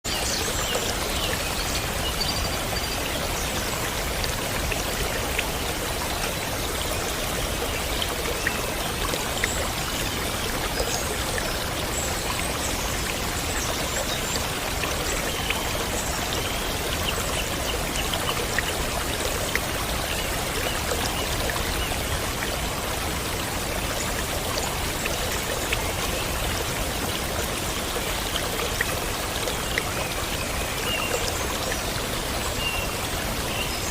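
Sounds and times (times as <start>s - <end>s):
stream of water flowing: 0.0s - 33.9s.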